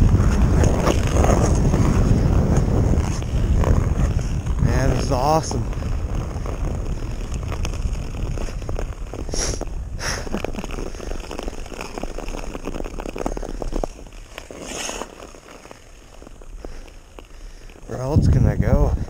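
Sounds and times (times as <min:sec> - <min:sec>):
atv engine rumbling and crackling: 0:00.0 - 0:19.0.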